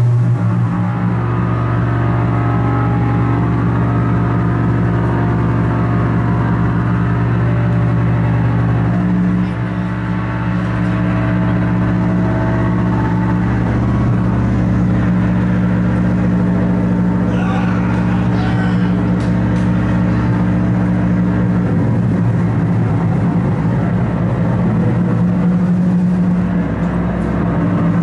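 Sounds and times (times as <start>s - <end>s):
distorted harsh noise music: 0.0s - 28.0s
steady low drone: 0.0s - 28.0s.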